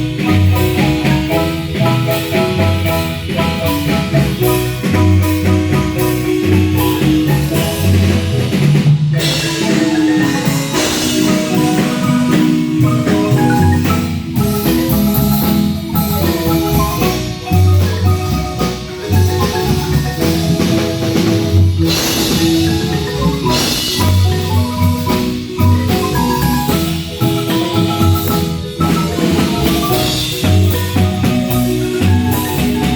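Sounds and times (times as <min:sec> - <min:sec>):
low bass notes: 0:00.0 - 0:32.9
marimba band playing: 0:00.0 - 0:32.9.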